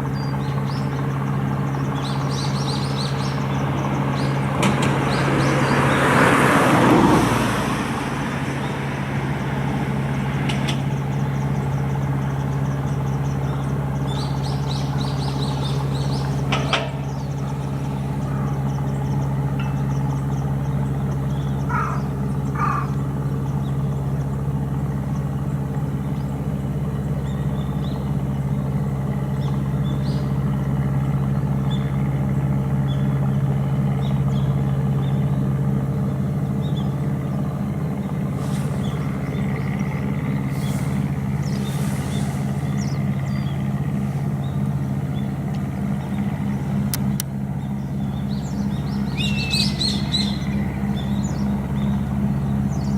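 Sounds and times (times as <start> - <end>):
engine humming steadily: 0.0 - 52.9.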